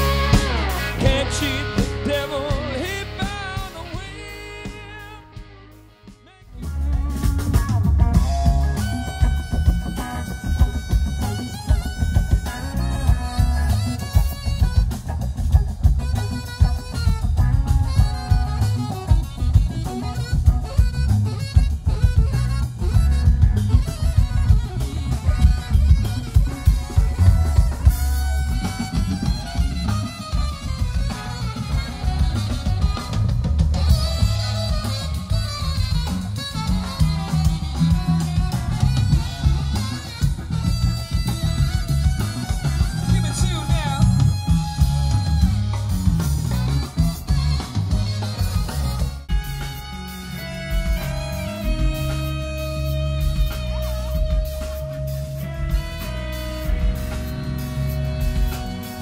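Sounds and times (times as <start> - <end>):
bass: 0.0 - 59.0
blues-rock band playing: 0.0 - 59.0
drum kit: 0.0 - 59.0
electric guitar bent notes: 0.0 - 59.0
saxophone solo: 0.0 - 59.0.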